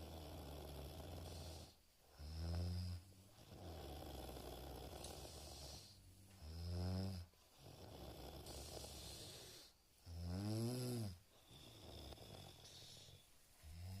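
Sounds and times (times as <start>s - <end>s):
person snoring: 0.0s - 14.0s.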